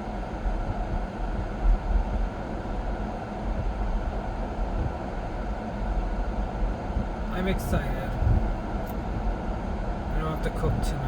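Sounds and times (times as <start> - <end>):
air conditioning fan running: 0.0 - 11.0
car road rumble: 0.0 - 11.0.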